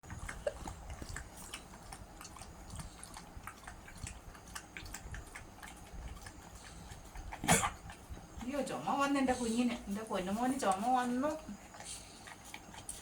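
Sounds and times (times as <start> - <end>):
puppy lapping milk: 0.0 - 13.0.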